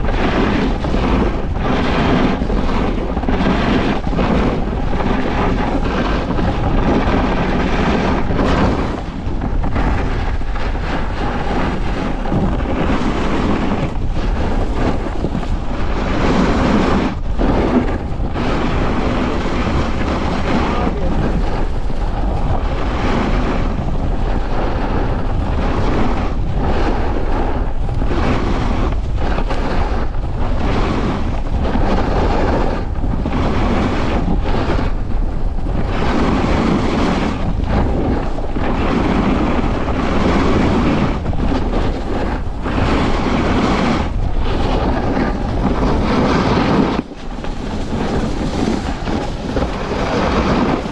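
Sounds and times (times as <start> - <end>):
snowboard scraping over snow: 0.0 - 50.9
wind buffeting microphone: 0.0 - 50.9.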